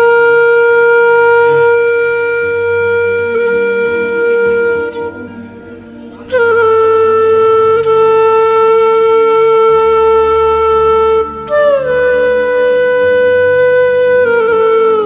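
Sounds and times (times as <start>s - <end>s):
held note over low drone: 0.0s - 15.0s
note sliding down in pitch: 0.0s - 15.0s.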